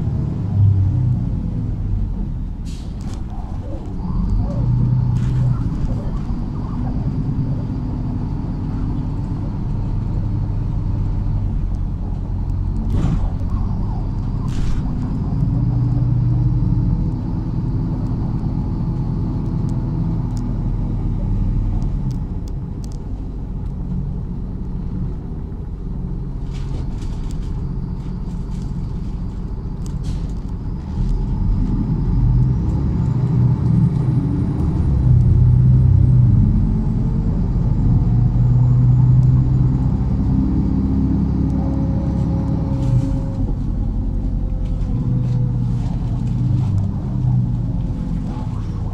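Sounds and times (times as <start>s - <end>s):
bus diesel engine: 0.0s - 48.9s.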